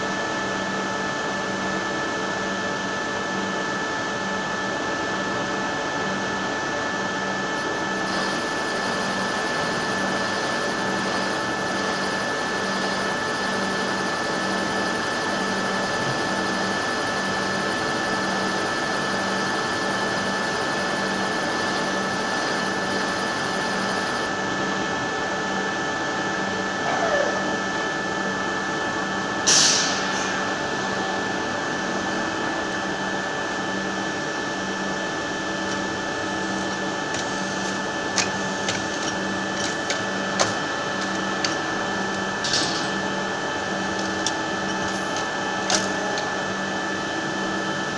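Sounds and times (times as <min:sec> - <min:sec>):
milling machine whining and humming: 0:00.0 - 0:47.9.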